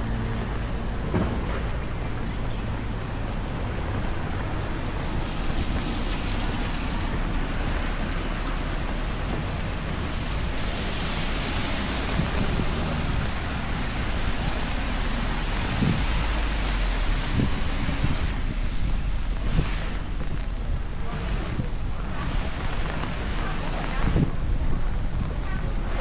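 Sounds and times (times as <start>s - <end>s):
low rumble: 0.0s - 26.0s
heavy rain hissing: 3.1s - 26.0s.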